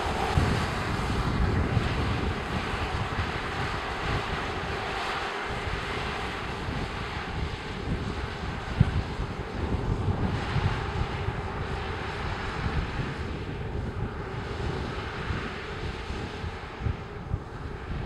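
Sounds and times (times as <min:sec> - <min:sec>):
combine harvester drone: 0:00.0 - 0:18.0.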